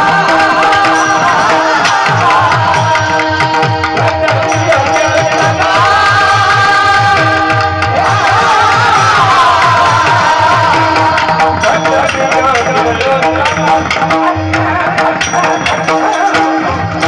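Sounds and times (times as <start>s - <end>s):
person singing devotional music: 0.0s - 17.0s.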